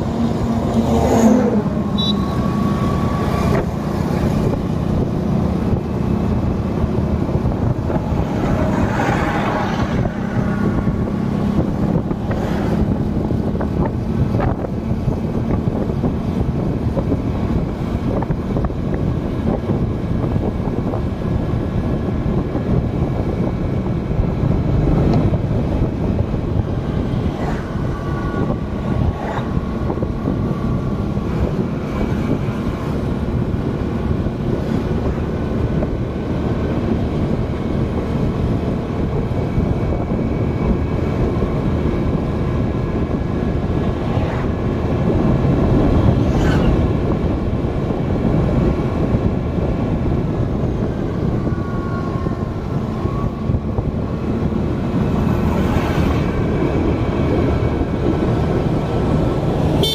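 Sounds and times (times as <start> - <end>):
vehicle road and engine noise: 0.0 - 59.9
wind on microphone: 0.0 - 59.9.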